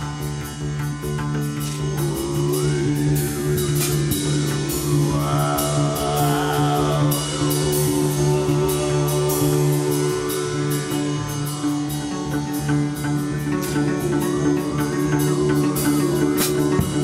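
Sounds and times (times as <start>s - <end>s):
drum kit with cymbals: 0.0s - 17.0s
plucked bass notes: 0.0s - 17.0s
sliding melody line: 0.0s - 17.0s.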